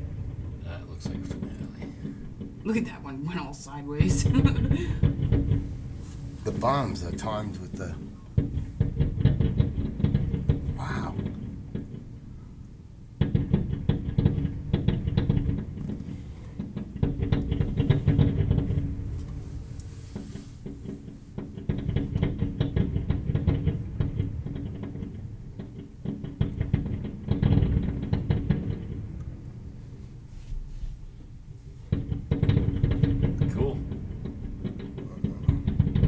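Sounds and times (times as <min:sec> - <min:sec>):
fireworks bangs and crackle: 0:00.0 - 0:12.2, 0:13.2 - 0:30.0, 0:31.8 - 0:36.0.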